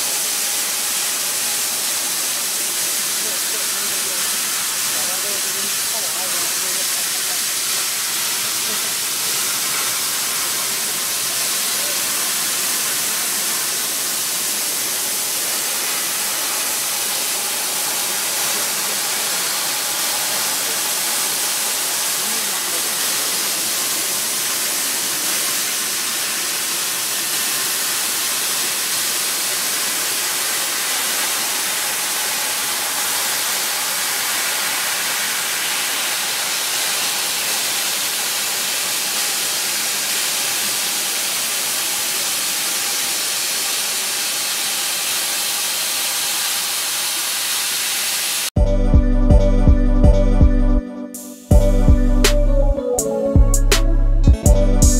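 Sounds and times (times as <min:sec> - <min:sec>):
laser cutter hissing: 0:00.0 - 0:48.5.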